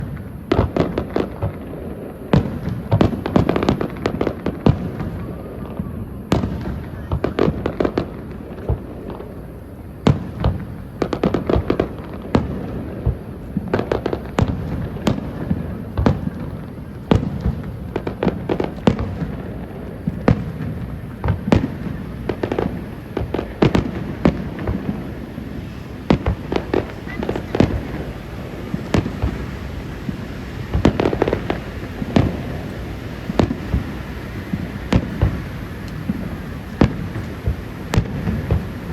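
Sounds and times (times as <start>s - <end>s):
fireworks bangs and pops: 0.0s - 38.9s
low rumble of fireworks bursts: 0.0s - 38.9s.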